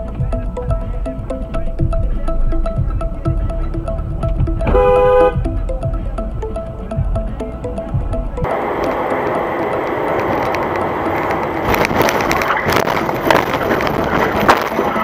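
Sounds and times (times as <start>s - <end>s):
car road and cabin noise: 0.0s - 15.0s.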